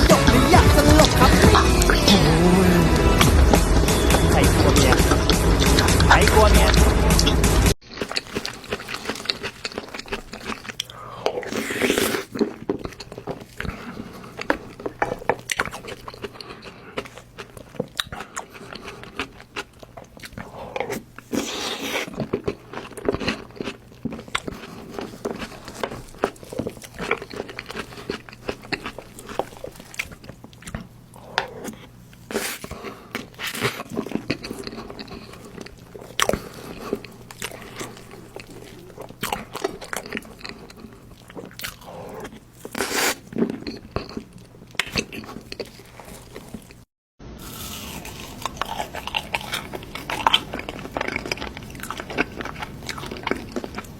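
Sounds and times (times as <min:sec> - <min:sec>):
person chewing cake: 0:00.0 - 0:53.9.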